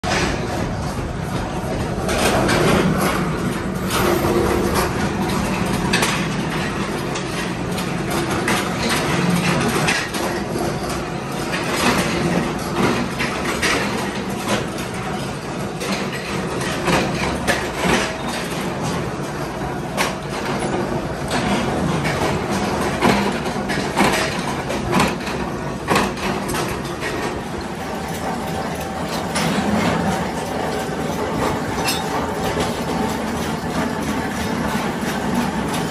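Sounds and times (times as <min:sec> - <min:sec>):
metallic clanks of steel parts: 0:00.1 - 0:35.9.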